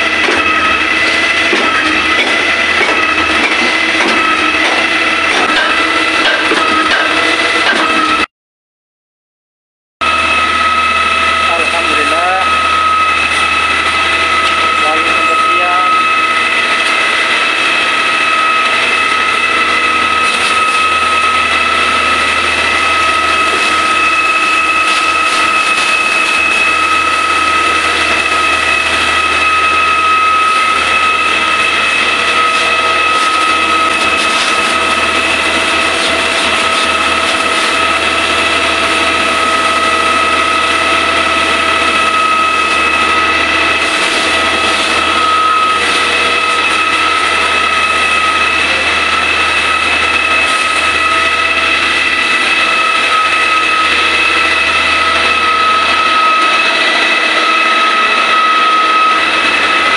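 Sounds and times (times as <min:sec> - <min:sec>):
concrete pump engine running: 0:00.0 - 0:08.3, 0:10.0 - 0:59.9
high steady whine: 0:00.0 - 0:08.3, 0:10.0 - 0:59.9.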